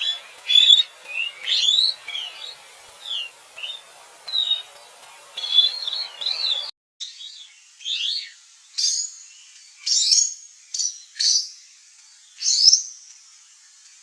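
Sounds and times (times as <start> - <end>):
bird chirps: 0.0 - 13.2.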